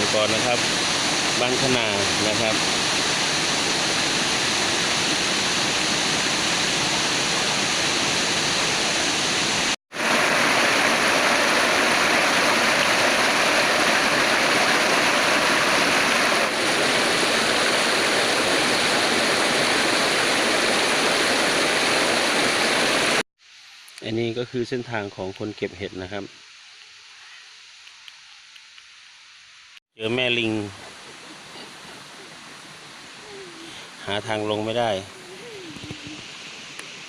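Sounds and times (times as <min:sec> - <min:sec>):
waterfall rushing: 0:00.0 - 0:23.2, 0:30.0 - 0:37.0.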